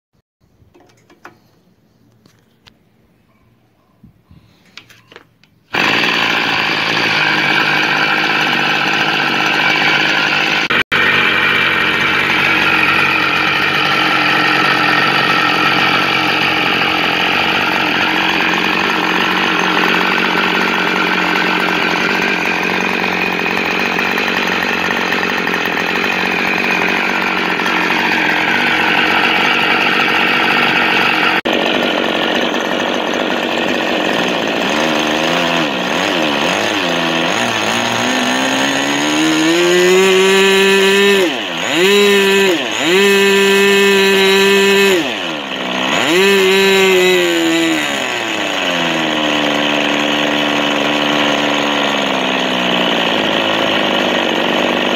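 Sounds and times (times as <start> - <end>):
model engine running at high speed: 5.7 - 54.9.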